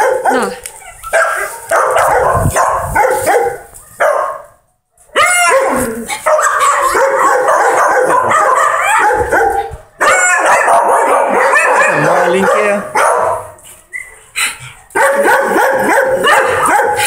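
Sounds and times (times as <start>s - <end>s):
dogs barking and yelping: 0.0s - 17.0s.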